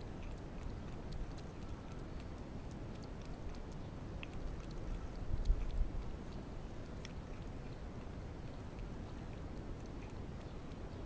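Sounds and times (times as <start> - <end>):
cat lapping milk: 0.0 - 11.0.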